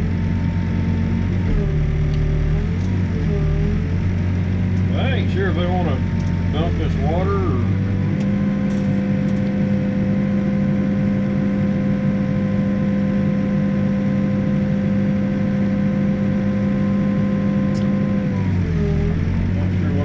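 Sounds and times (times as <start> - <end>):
diesel engine running with whine: 0.0 - 20.0.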